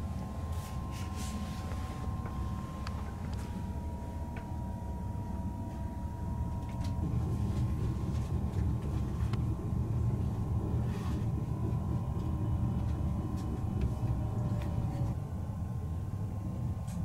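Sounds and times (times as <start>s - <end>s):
faint steady whine: 0.0s - 17.0s
train rumble: 0.0s - 17.0s.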